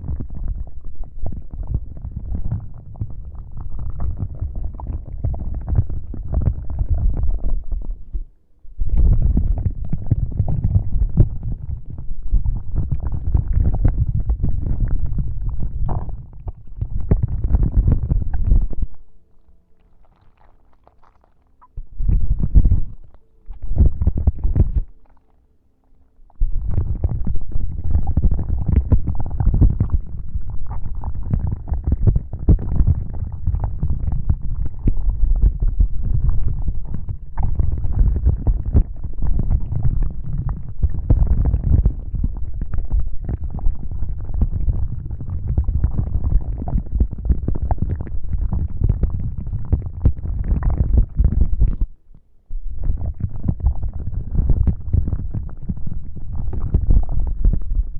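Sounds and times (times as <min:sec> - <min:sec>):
rubbing and scratching on microphone: 0:00.0 - 0:08.2, 0:08.8 - 0:19.0, 0:20.0 - 0:25.2, 0:26.2 - 0:57.9.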